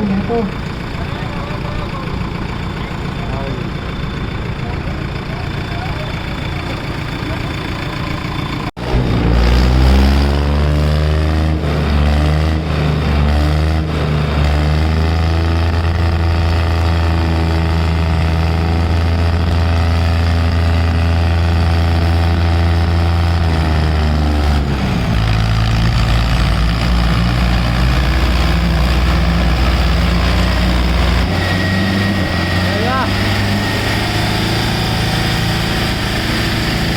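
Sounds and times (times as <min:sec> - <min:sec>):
diesel tractor engine labouring: 0:00.0 - 0:36.9.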